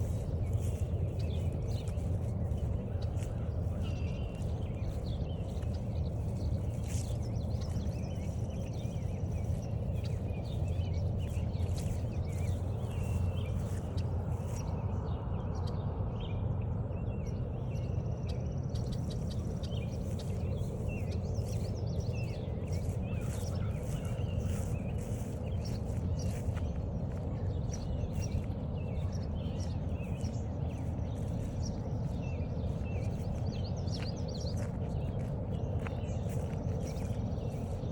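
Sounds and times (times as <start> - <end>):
footsteps on trail: 0.0 - 14.8, 18.8 - 37.9
songbirds calling: 0.0 - 16.4, 17.0 - 37.9
steady low rumble: 0.0 - 37.9.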